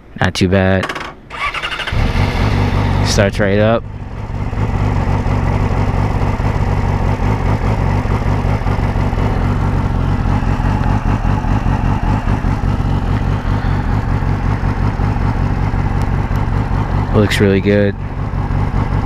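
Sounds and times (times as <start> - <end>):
motorcycle engine idling: 1.4 - 19.0.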